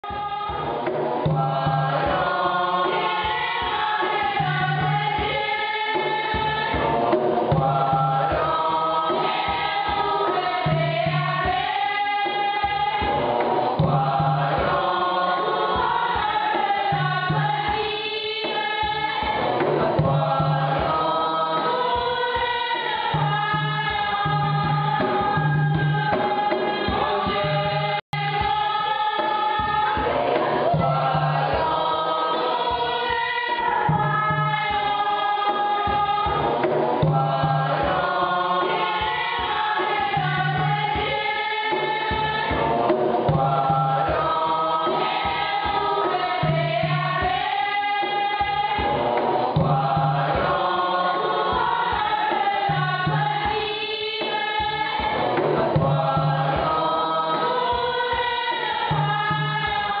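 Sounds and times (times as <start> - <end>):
choir singing: 0.0 - 60.0.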